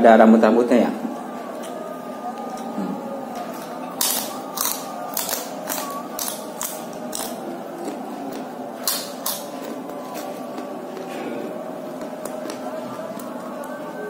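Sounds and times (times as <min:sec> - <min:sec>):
crunchy chewing of chips: 0:01.2 - 0:14.0.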